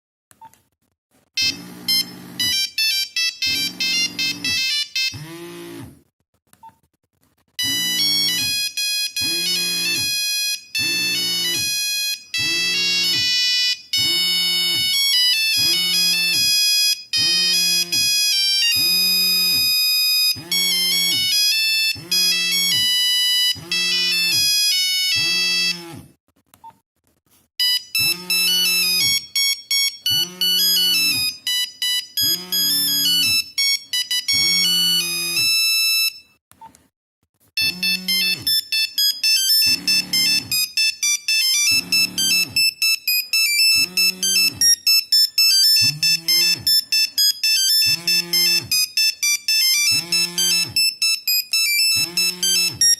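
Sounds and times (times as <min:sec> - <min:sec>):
monophonic phone ringtone melody: 0:01.4 - 0:05.4, 0:07.6 - 0:25.8, 0:27.6 - 0:36.4, 0:37.6 - 0:52.9.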